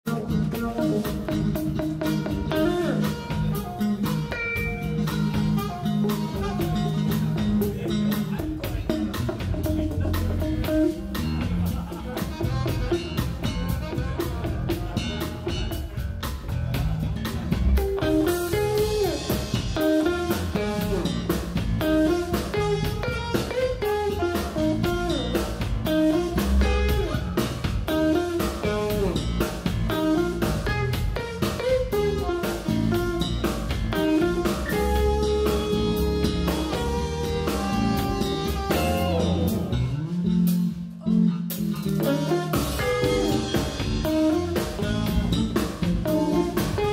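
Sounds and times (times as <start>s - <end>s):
soul-jazz band playing: 0.0s - 46.9s.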